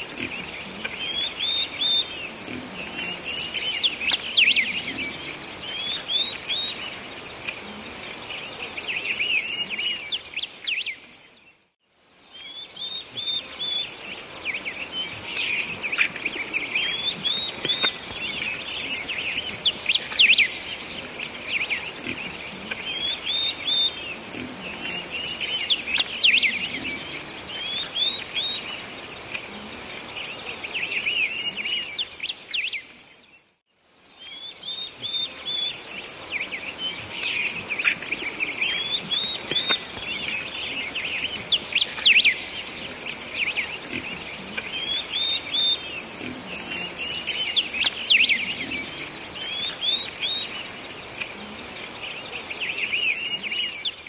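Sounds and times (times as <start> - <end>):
small birds chirping: 0.0 - 54.0
steady outdoor hiss: 0.0 - 54.0.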